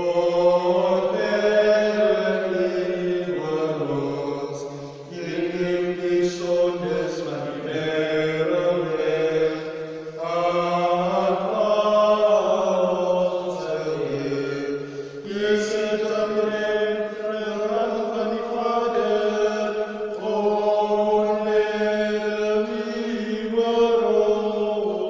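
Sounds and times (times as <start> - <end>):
slow sung liturgical chant: 0.0 - 25.0.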